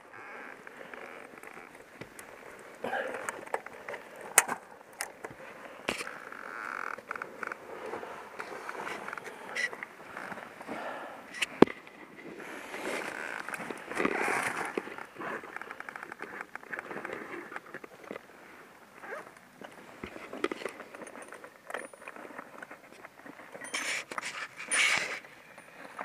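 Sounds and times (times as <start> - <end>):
rustling of gear and gloves: 0.0 - 26.0.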